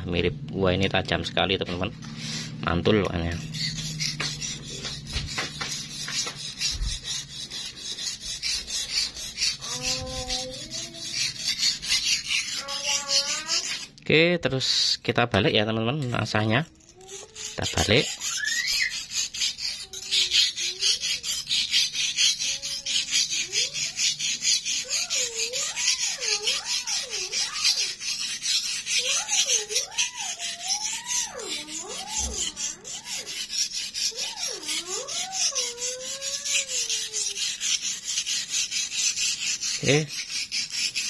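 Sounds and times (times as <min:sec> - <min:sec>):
knife scraping on whetstone: 0:01.0 - 0:14.0, 0:16.0 - 0:41.0.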